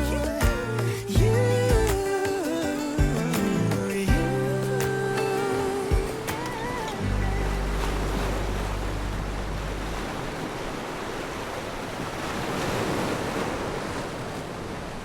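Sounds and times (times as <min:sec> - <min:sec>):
ocean surf washing onto beach: 0:00.5 - 0:15.0.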